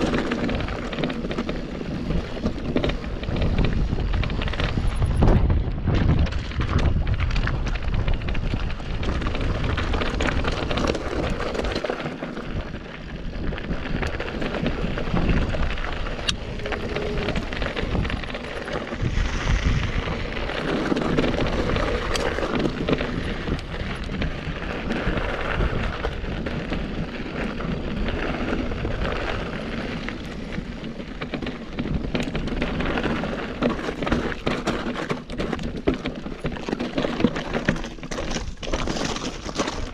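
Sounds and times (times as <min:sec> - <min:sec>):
wind on microphone: 0:00.0 - 0:11.8, 0:12.4 - 0:34.6
bike rattling and knocking: 0:00.0 - 0:39.9
tyres crunching over gravel: 0:00.0 - 0:39.9.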